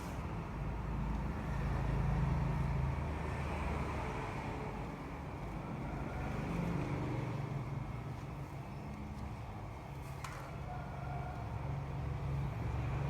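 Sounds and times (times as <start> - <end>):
engine running with low hum: 0.0 - 13.0.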